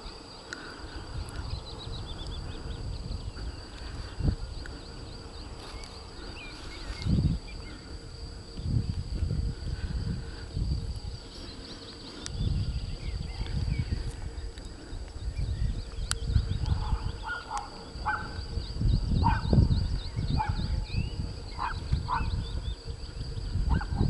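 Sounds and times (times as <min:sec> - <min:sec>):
small birds chirping: 0:00.0 - 0:24.0
wind buffeting microphone: 0:00.0 - 0:24.0.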